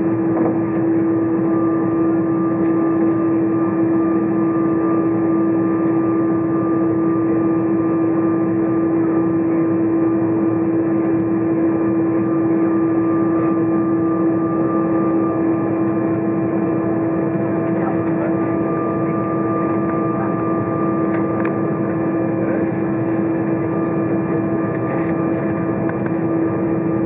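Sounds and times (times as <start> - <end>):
airplane cabin rushing hum: 0.0 - 27.0.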